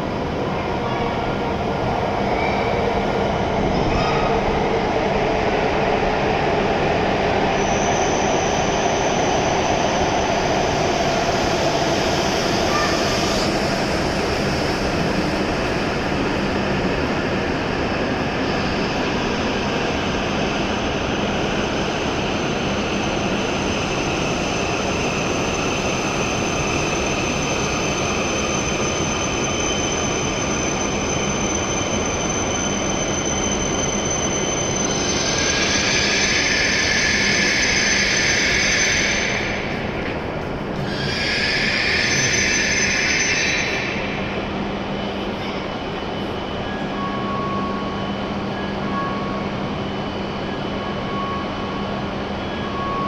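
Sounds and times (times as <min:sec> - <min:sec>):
train running noise with high whine: 0:00.0 - 0:53.0
wheels and brakes squealing: 0:07.5 - 0:53.0.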